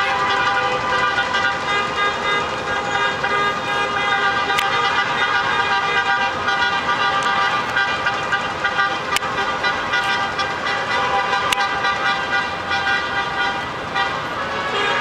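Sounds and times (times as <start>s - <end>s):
many car horns sounding: 0.0s - 15.0s
slow street traffic: 0.0s - 15.0s.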